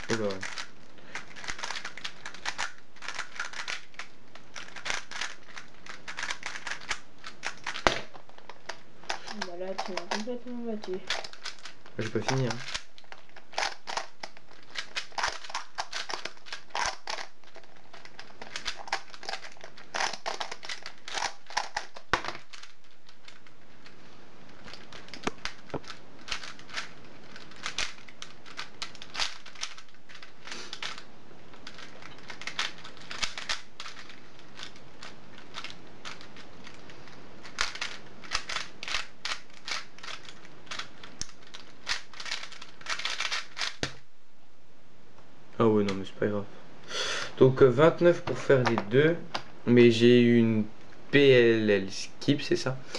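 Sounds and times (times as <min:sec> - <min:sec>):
puzzle cube clicking: 0:00.0 - 0:44.0.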